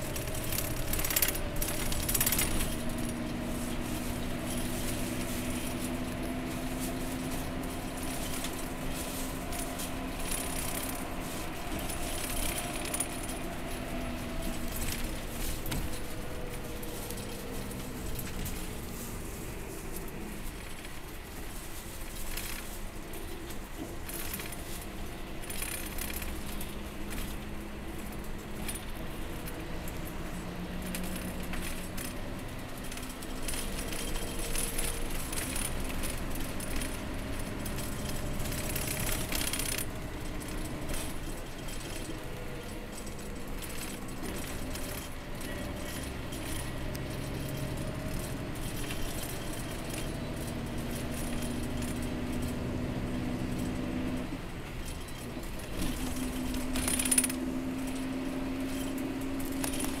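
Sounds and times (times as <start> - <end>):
coach engine and road noise: 0.0 - 60.0
rattles and jingles of loose fittings: 0.0 - 60.0.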